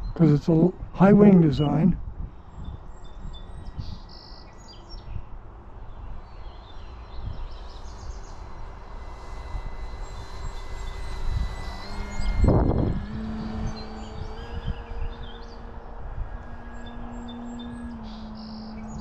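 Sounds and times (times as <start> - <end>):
birds chirping: 0.0 - 19.0
wind rumbling on microphone: 0.0 - 19.0.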